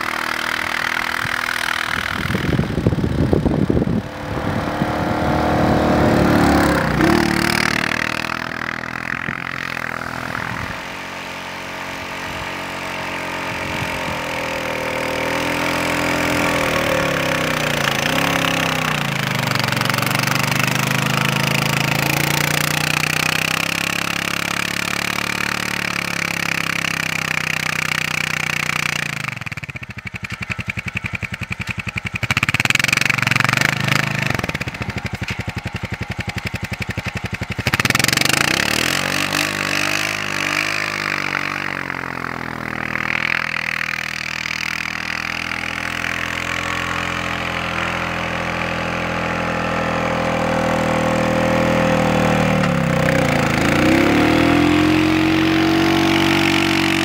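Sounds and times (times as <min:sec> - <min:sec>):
atv engine in snow: 0:00.0 - 0:57.0.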